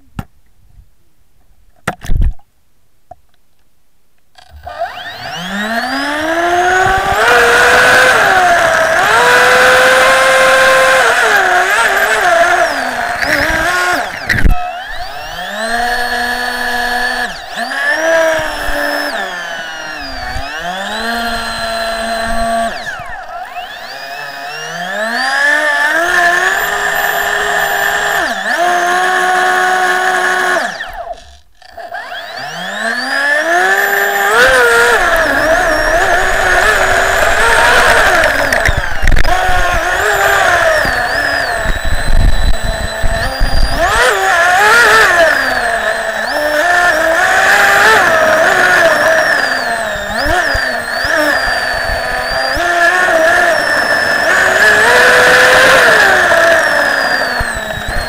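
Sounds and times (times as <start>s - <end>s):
electric motor high whine: 4.4s - 58.0s.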